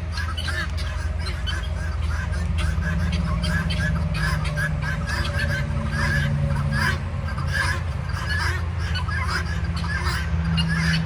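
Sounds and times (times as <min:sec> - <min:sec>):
guinea fowl calling: 0:00.0 - 0:11.0
steady low rumble: 0:00.0 - 0:11.0.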